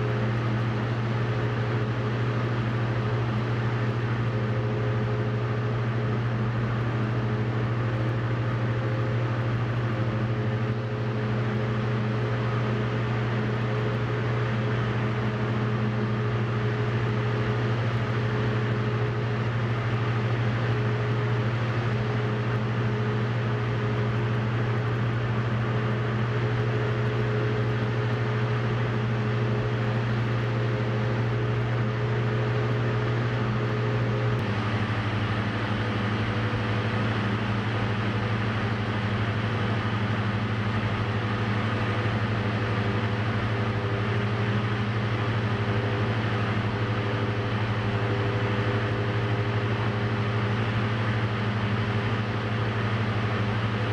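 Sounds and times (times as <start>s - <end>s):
plane engine drone in cockpit: 0.0s - 53.9s.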